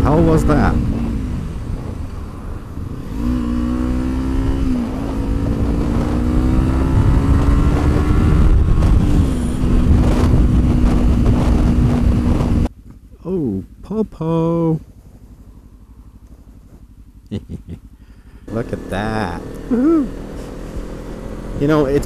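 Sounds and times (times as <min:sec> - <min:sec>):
motorcycle engine accelerating: 0:00.0 - 0:13.4, 0:14.1 - 0:22.0
wind and road rush: 0:00.0 - 0:13.9, 0:14.7 - 0:22.0.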